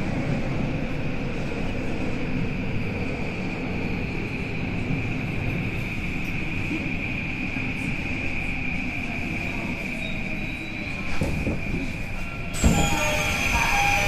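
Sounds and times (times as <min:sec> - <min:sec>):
subway doors sliding open: 0:00.0 - 0:14.0.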